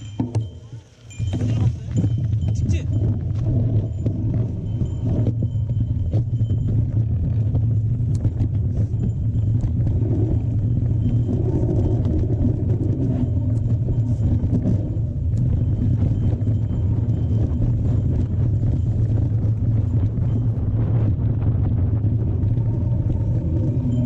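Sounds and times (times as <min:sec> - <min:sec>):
bike clicking and rattling: 0:00.0 - 0:24.0
tyres rumbling on rough trail: 0:00.0 - 0:24.0
wind on microphone: 0:00.0 - 0:24.0.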